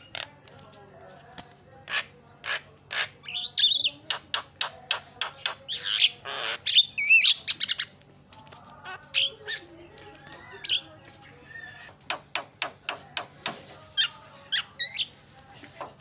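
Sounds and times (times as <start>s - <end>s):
myna chattering: 1.7s - 16.0s.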